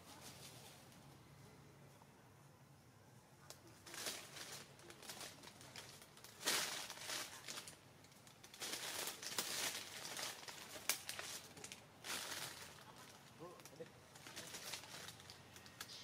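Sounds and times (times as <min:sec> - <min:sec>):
rustling and crinkling: 0:00.0 - 0:01.2, 0:03.4 - 0:16.0.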